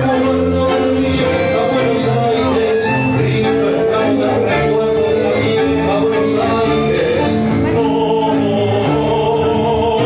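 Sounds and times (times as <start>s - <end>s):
bandoneon: 0.0s - 10.0s
violin: 0.0s - 10.0s.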